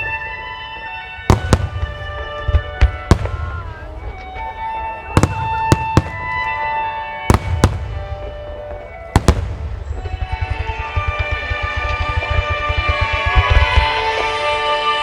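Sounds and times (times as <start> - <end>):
fireworks bangs: 0.0 - 14.7.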